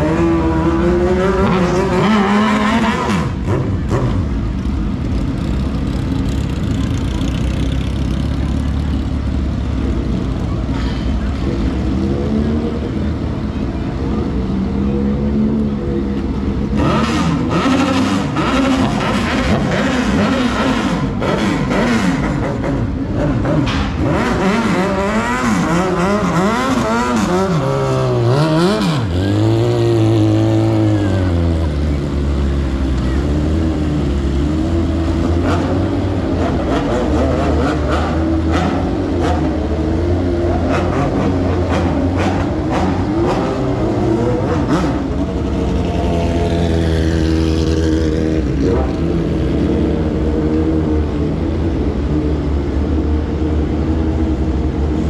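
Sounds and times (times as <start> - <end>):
motorcycle engine revving: 0.0 - 10.6, 14.2 - 55.0.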